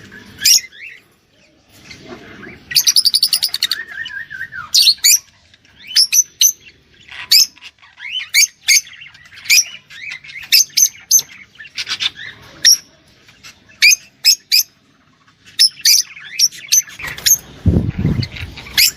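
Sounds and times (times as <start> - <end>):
bird chirping: 0.0 - 18.9.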